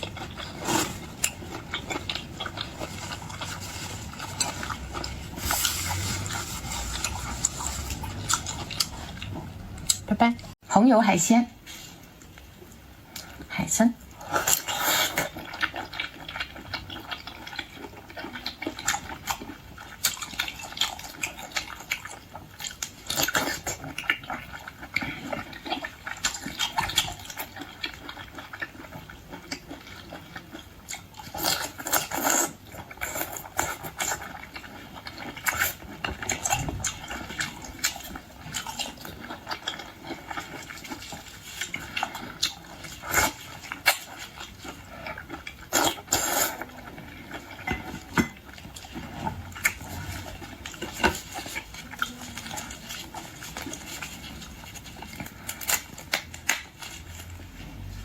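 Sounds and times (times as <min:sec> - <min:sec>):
wet chewing and slurping: 0:00.0 - 0:10.6, 0:11.6 - 0:58.0.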